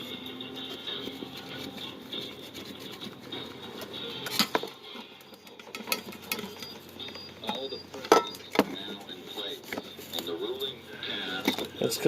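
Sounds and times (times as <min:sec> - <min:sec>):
handling and scraping noises: 0:00.0 - 0:12.0.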